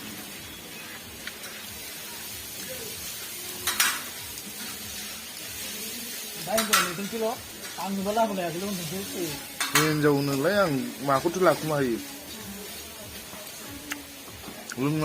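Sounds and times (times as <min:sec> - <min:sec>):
sizzling hiss: 0:00.0 - 0:15.0.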